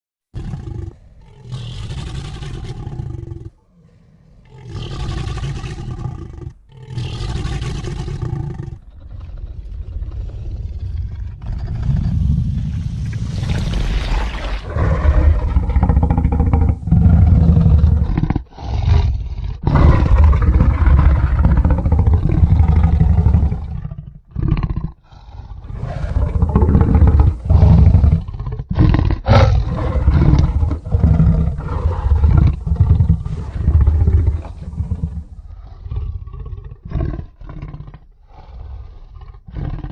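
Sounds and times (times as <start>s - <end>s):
big cat roaring: 0.4s - 12.8s, 13.5s - 39.9s.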